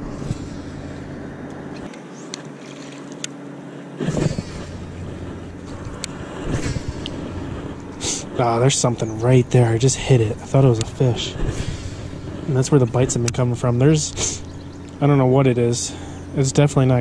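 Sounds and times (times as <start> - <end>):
wind rumbling on microphone: 0.0 - 1.9, 4.0 - 17.0
low hum: 0.0 - 17.0.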